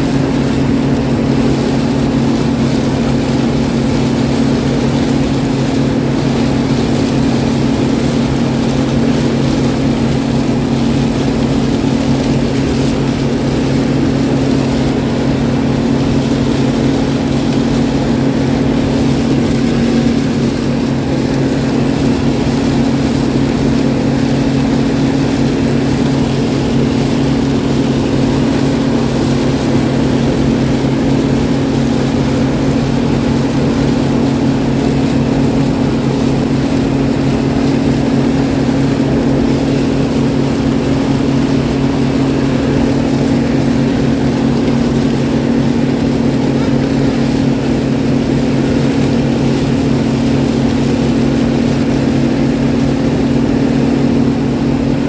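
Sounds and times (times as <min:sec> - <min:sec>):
engine droning under load: 0:00.0 - 0:55.0.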